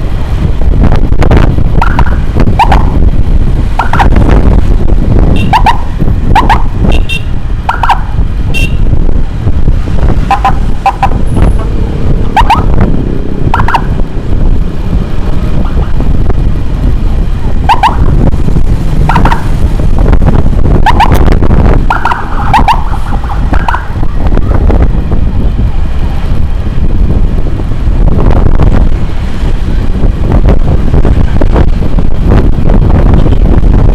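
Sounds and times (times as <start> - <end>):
motorcycle engine rumble: 0.0 - 33.9
wind on microphone: 0.0 - 33.9.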